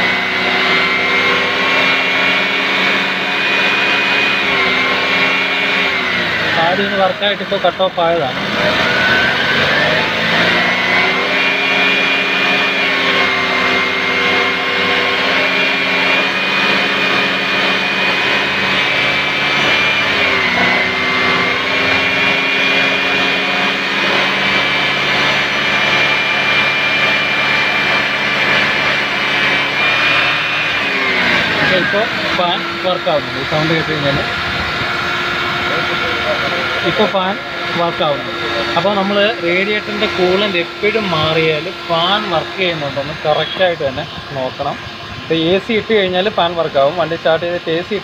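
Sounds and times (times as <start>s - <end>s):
car engine idling: 0.0s - 48.0s
radiator cooling fan whine: 0.0s - 48.0s.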